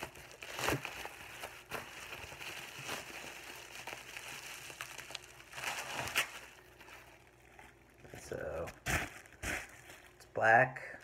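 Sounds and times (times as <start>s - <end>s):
bubble wrap crinkling: 0.0s - 10.4s.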